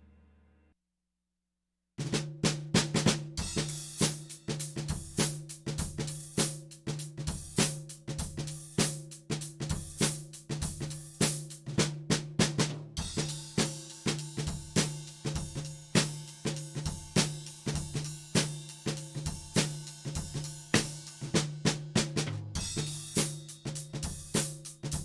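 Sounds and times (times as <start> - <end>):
drum kit playing a beat: 2.0 - 25.0.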